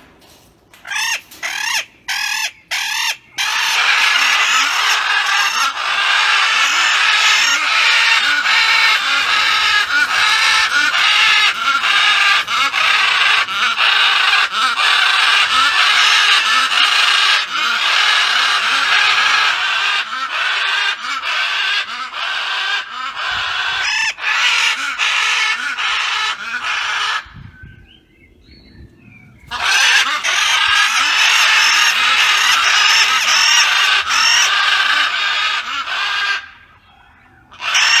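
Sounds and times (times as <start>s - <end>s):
macaws squawking: 0.8s - 27.4s, 29.4s - 38.0s.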